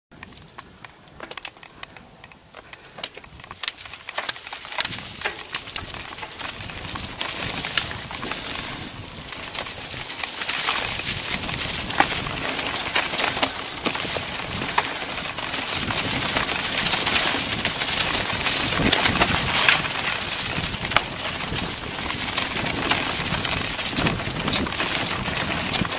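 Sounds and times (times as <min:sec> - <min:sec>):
bike clicks and rattles: 0:00.1 - 0:25.9
tyres crunching over dirt and leaves: 0:00.2 - 0:25.9.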